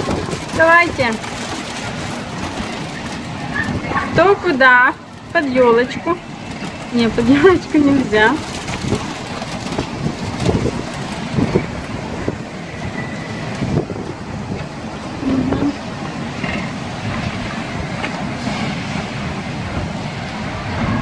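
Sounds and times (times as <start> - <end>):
storm wind blowing hard: 0.0 - 21.0
wind gusts buffeting microphone: 0.0 - 21.0.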